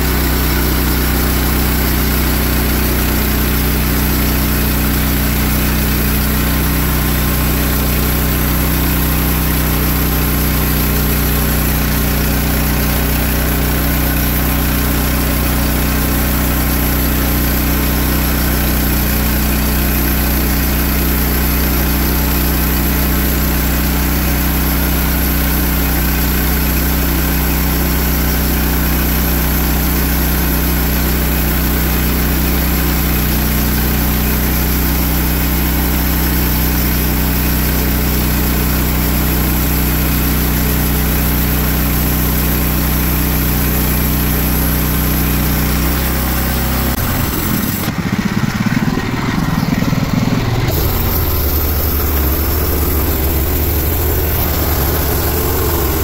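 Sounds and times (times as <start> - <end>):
band blade cutting log: 0.0 - 48.1, 49.6 - 56.0
sawmill engine running: 0.0 - 56.0.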